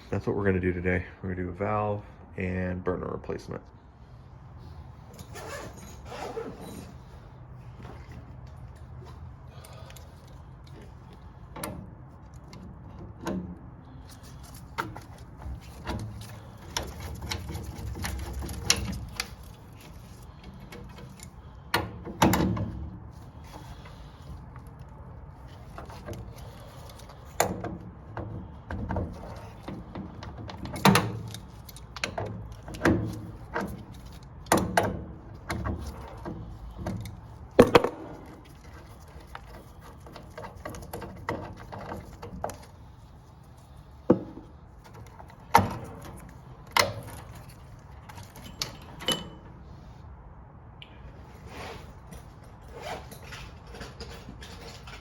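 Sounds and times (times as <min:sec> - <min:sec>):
tools and metal parts clunking: 0:05.0 - 0:49.9, 0:51.2 - 0:55.0.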